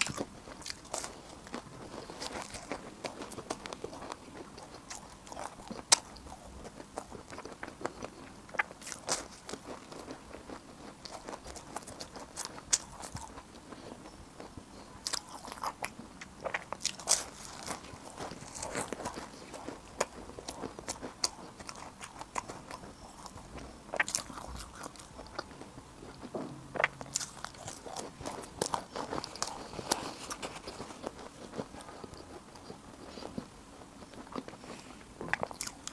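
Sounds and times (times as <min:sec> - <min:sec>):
crunchy bites and chewing: 0:00.0 - 0:35.9.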